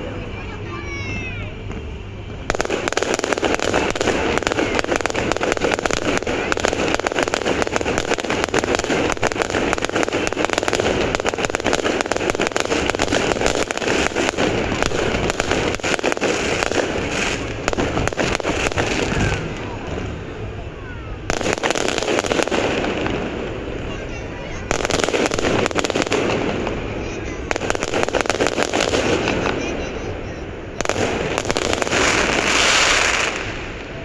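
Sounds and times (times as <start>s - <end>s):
fireworks crackling: 0.0s - 34.0s
fireworks whistling: 0.0s - 34.0s.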